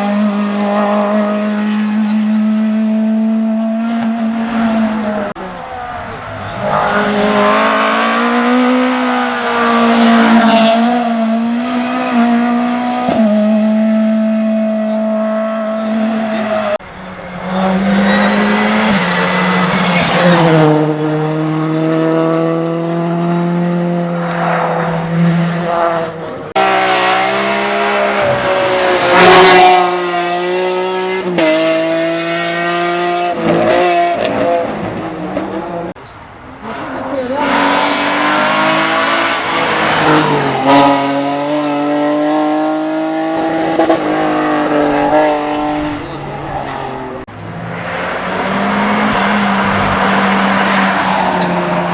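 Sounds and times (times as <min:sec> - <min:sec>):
race car engine at high revs: 0:00.0 - 0:36.0, 0:36.6 - 0:51.9.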